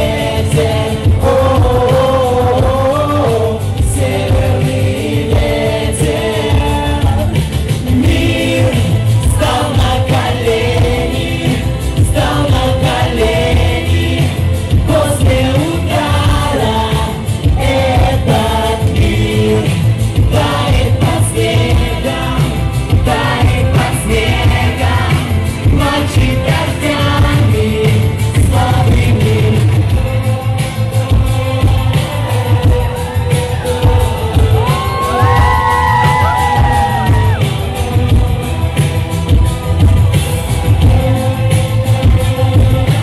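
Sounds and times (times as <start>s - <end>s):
pop-rock song with singing: 0.0s - 43.0s.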